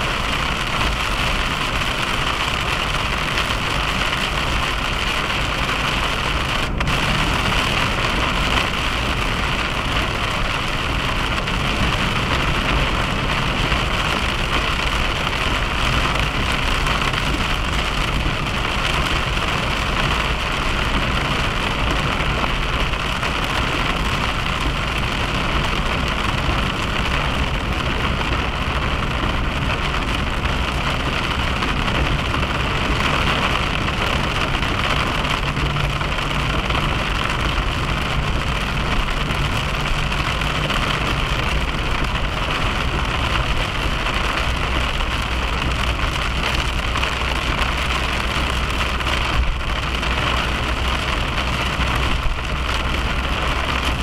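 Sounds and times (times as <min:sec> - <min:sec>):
car tyre and engine noise: 0:00.0 - 0:54.0.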